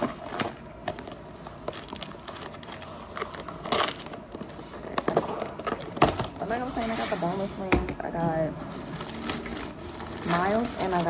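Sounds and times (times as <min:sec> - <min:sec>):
food packaging crinkling: 0:00.0 - 0:06.9, 0:08.6 - 0:11.0.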